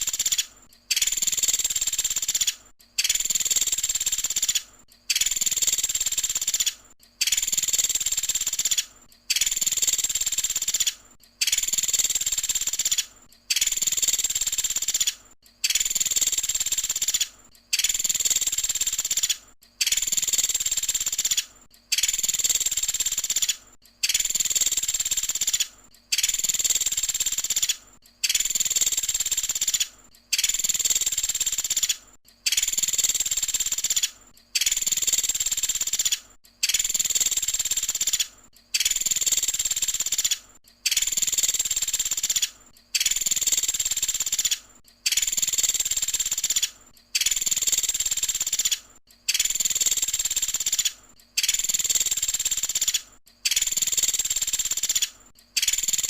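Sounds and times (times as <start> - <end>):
high-pitched bird song: 0.0 - 56.0.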